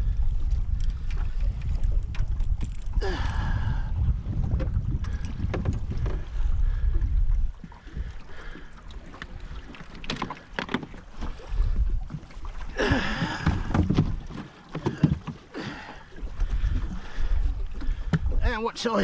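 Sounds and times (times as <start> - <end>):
wind rumble on microphone: 0.0 - 9.7, 11.2 - 14.4, 16.1 - 18.6.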